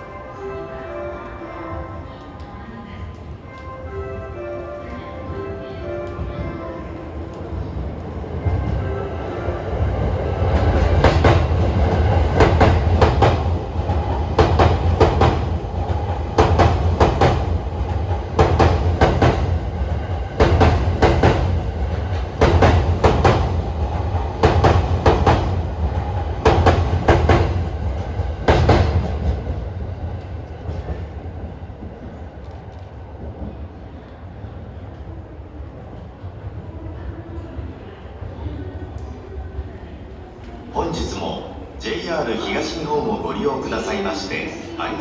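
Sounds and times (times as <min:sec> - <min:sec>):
train low rumble: 0:00.0 - 0:45.0.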